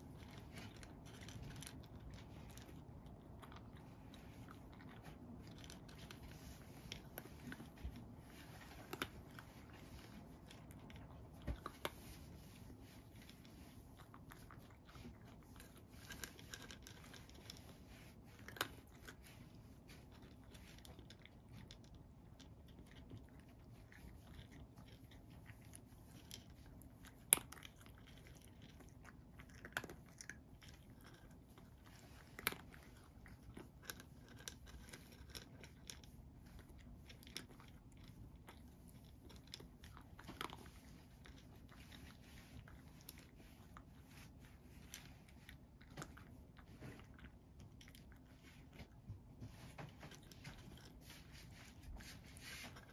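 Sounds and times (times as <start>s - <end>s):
cat crunching dry food: 0.0s - 52.9s.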